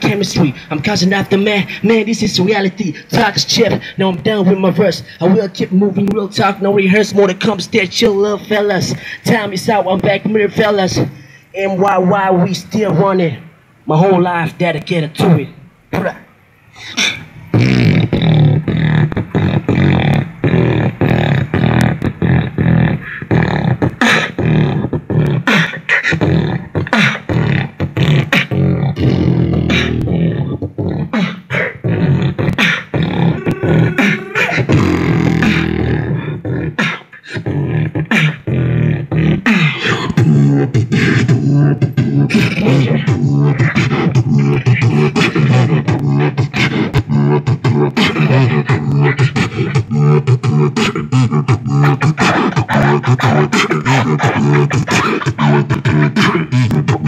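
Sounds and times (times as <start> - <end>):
beatboxing into a microphone: 0.0 - 57.0.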